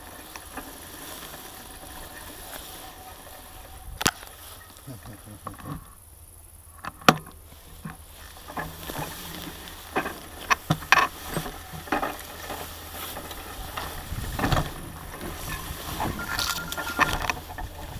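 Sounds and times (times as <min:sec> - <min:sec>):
bike clicks and knocks: 0:00.0 - 0:06.0, 0:06.7 - 0:17.9
steady low rumble: 0:01.7 - 0:17.9.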